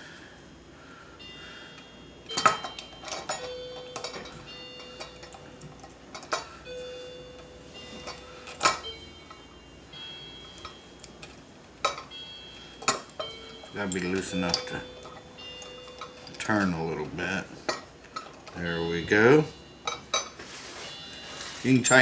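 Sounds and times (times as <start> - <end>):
metal parts clinking: 2.3 - 6.5, 7.3 - 9.4, 10.4 - 22.0.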